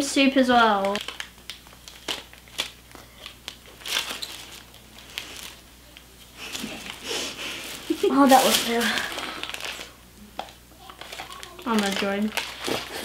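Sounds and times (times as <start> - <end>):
paper wrappers crinkling: 0.4 - 13.0.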